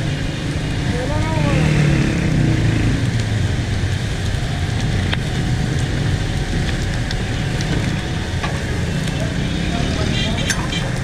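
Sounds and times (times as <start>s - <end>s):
gas burner roar: 0.0s - 11.0s.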